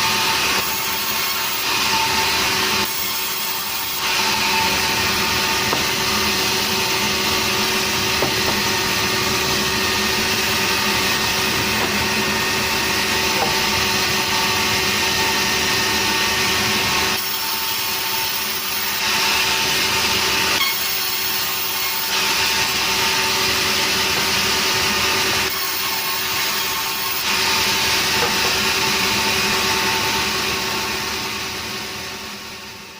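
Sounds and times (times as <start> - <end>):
sawmill saw cutting a log: 0.0 - 32.9.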